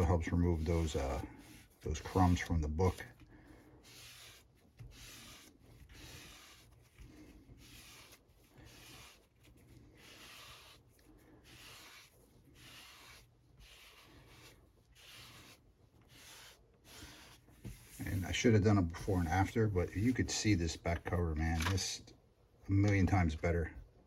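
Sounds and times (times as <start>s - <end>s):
sponge scrubbing paper: 0.0s - 21.9s.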